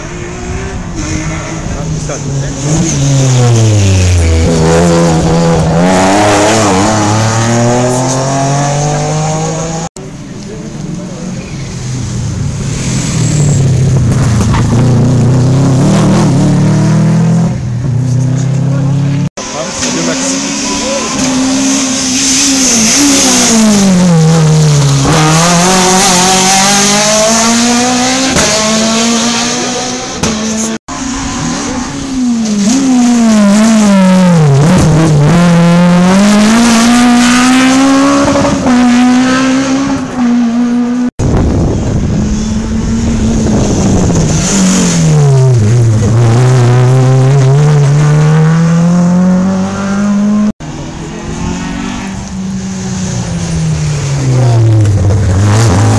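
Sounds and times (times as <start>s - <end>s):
rally cars passing: 0.0s - 55.9s.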